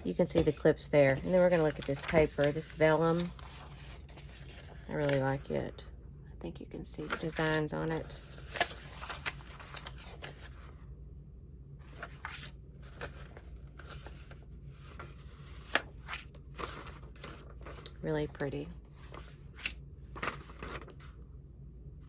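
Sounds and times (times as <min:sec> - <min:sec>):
paper rustling and crinkling: 0:00.0 - 0:05.5, 0:07.0 - 0:10.7, 0:11.9 - 0:21.2
faint low hum: 0:00.0 - 0:22.0.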